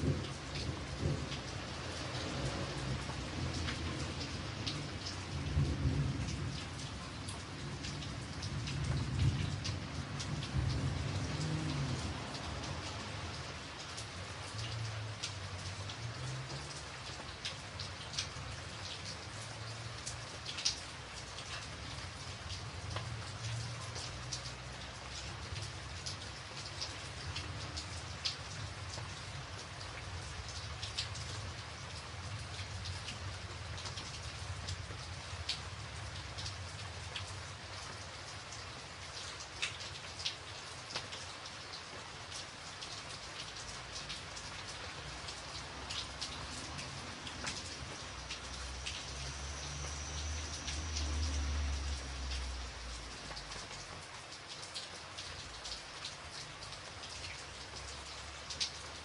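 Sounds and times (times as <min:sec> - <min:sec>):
raindrops ticking on surface: 0:00.0 - 0:59.0
steady rain falling: 0:00.0 - 0:59.0.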